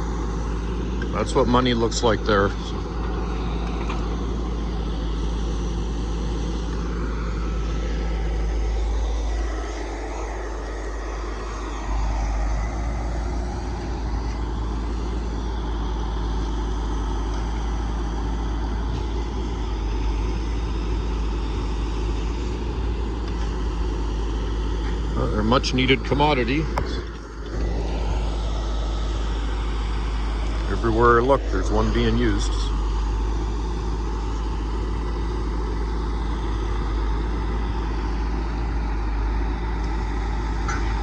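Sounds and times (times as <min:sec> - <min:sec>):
truck engine rumbling: 0:00.0 - 0:41.0.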